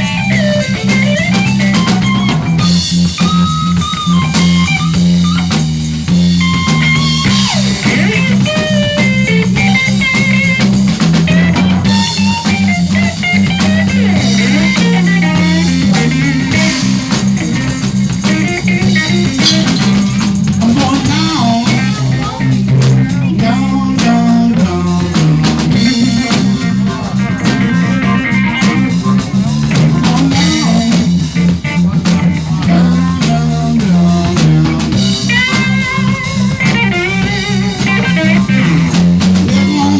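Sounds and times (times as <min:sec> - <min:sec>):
bass guitar line: 0:00.0 - 0:39.9
drum kit: 0:00.0 - 0:39.9
electric guitar bending notes: 0:00.0 - 0:39.9.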